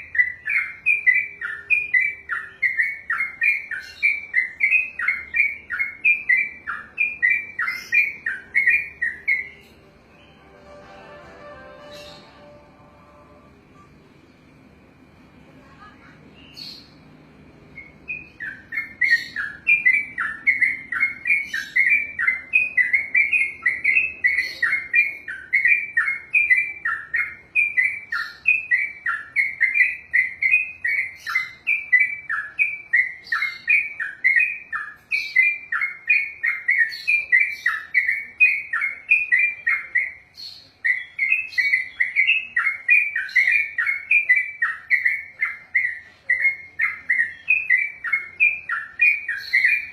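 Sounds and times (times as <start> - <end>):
bird warbling song: 0.0 - 10.6, 16.3 - 49.9.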